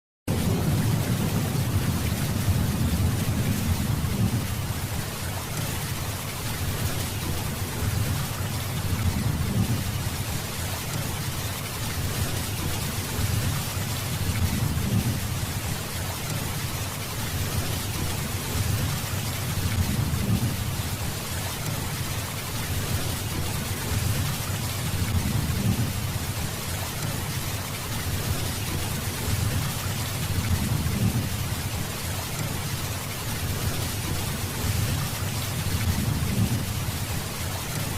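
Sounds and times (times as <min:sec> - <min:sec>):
heavy rain hiss: 0:00.3 - 0:37.9.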